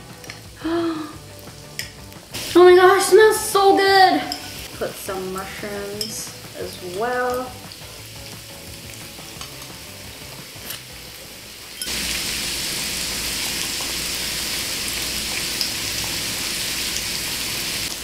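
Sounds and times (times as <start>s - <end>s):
meat sizzling in a pan: 0.0s - 18.0s.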